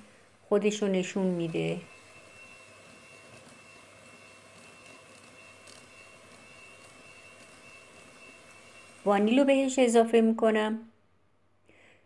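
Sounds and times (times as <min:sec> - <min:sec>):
beaters whipping cream in bowl: 0:00.0 - 0:10.0
electric hand mixer whining: 0:00.0 - 0:10.0.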